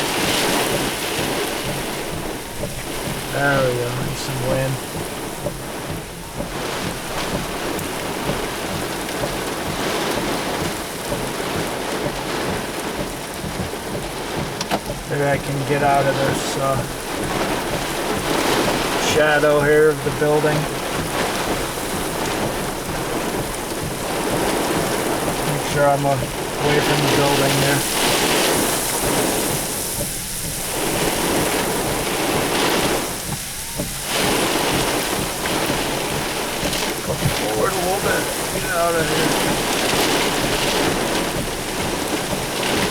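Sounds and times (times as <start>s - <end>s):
gusting wind: 0.0s - 42.9s
heavy rain pouring: 0.0s - 42.9s.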